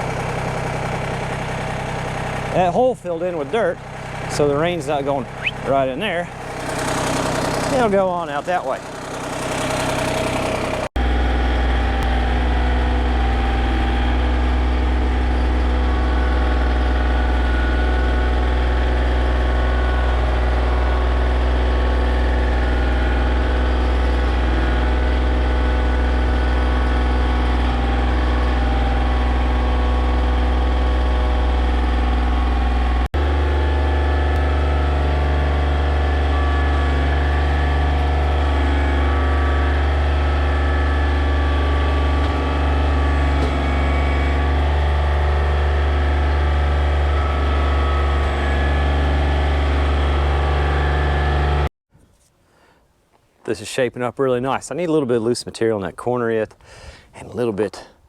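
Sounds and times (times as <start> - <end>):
tractor diesel engine running: 0.0 - 51.7.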